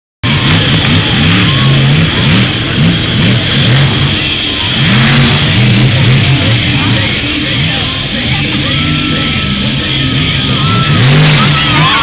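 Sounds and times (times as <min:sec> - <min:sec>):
monster truck engine revving: 0:00.2 - 0:12.0.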